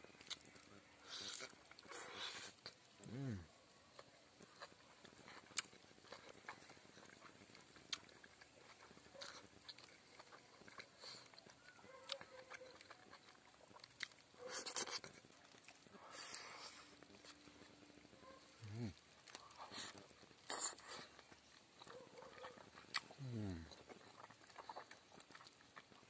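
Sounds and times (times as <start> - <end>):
chewing and lip-smacking: 0.0 - 3.2, 3.9 - 26.0.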